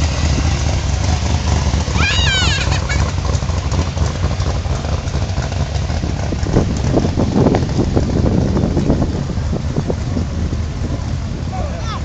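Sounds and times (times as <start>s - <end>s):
car engines rumbling past: 0.0s - 12.0s.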